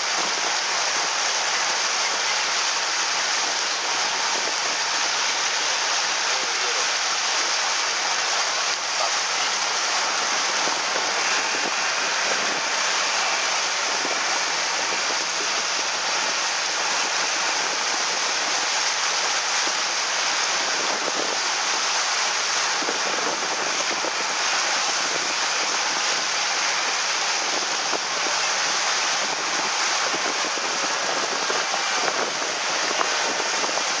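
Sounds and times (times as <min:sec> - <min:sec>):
rushing water hiss: 0:00.0 - 0:34.0.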